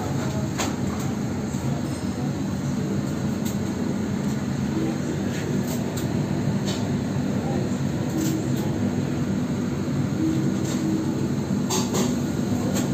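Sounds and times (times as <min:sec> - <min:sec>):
oven convection fan humming: 0:00.0 - 0:12.9.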